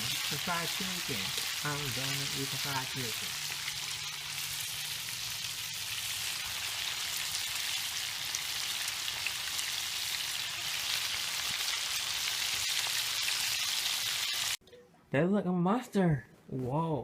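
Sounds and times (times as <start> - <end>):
chicken deep-frying in oil: 0.0 - 14.6.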